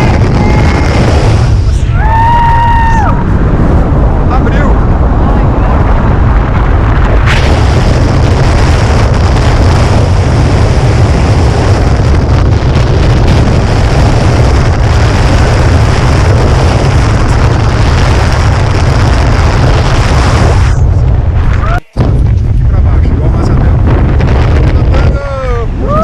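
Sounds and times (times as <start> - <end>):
wind roaring over microphone: 0.0 - 26.0.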